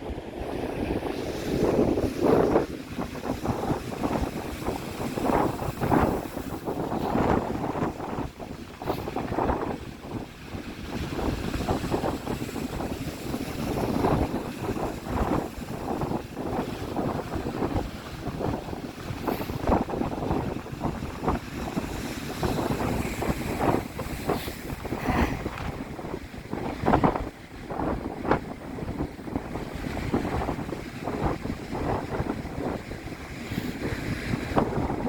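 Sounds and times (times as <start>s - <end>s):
sea waves breaking: 0.0s - 35.0s
wind buffeting microphone: 0.0s - 35.0s.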